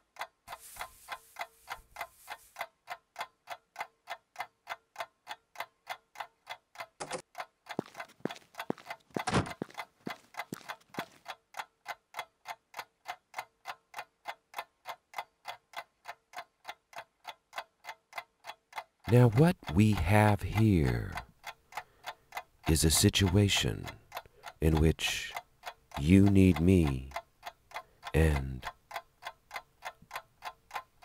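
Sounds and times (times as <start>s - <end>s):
clock ticking: 0.0s - 31.0s.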